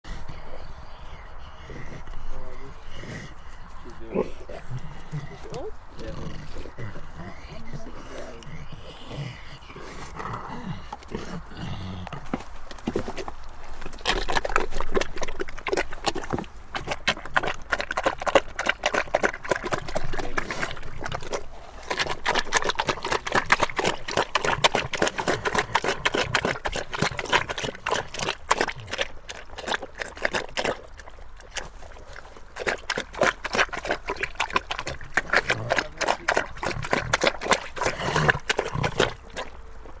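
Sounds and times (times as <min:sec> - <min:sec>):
pig chewing and smacking: 0:00.1 - 0:40.0.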